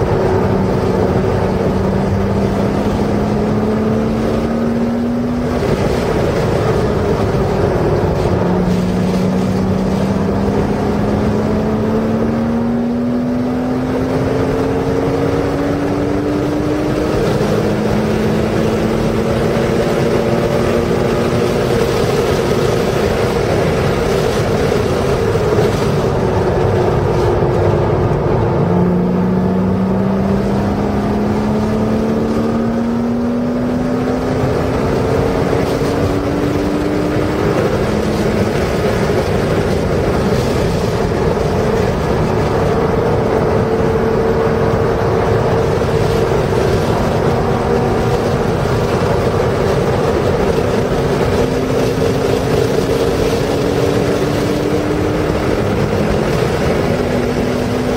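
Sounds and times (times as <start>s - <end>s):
car engine accelerating hard: 0.0s - 57.9s
wind noise: 0.0s - 57.9s.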